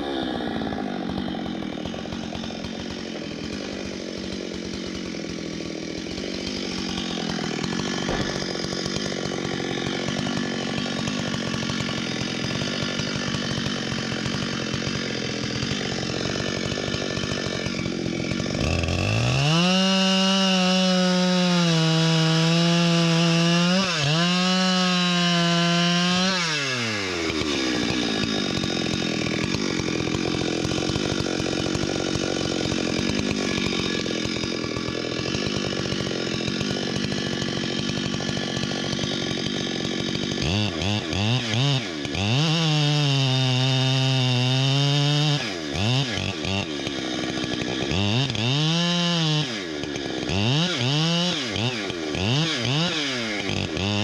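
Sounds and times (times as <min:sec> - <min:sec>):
chainsaw running and revving: 0:00.0 - 0:54.0.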